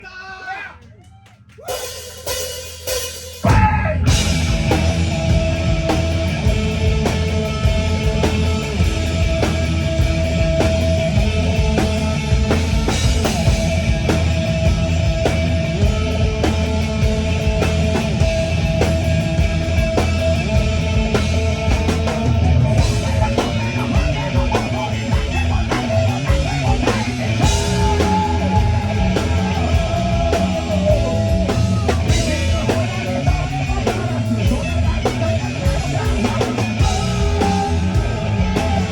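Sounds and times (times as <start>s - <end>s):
drum kit hitting steadily: 1.6s - 38.9s
rock band playing live: 1.6s - 38.9s.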